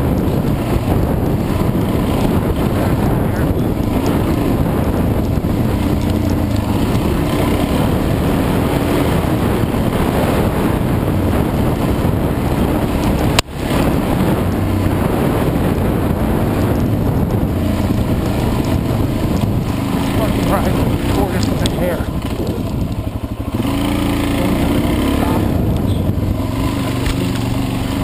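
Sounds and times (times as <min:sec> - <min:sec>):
motorcycle engine under load: 0:00.0 - 0:28.0
wind buffeting microphone: 0:00.0 - 0:28.0.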